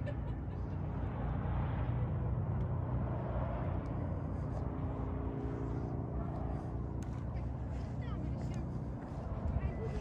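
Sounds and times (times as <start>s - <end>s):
distant engine hum: 0.0s - 10.0s
wind rumble on microphone: 1.1s - 10.0s.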